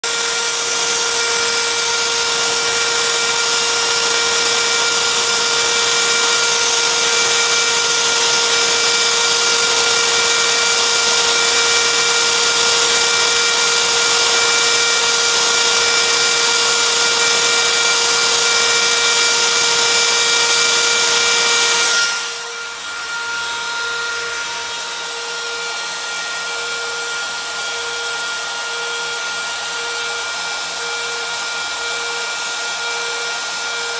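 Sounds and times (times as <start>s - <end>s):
router spindle whining: 0.0s - 33.9s.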